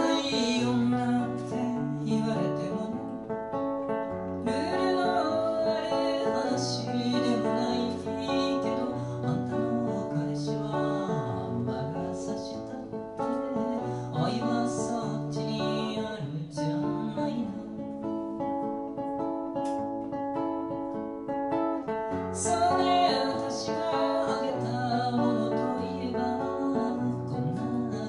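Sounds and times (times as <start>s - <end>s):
woman singing: 0.0s - 18.5s, 21.8s - 28.0s
acoustic guitar: 0.0s - 28.0s.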